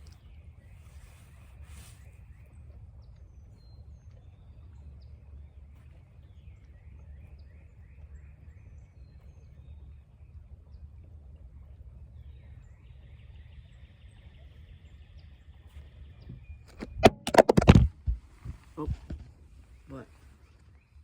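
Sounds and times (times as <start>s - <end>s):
steady low rumble: 0.0s - 20.3s.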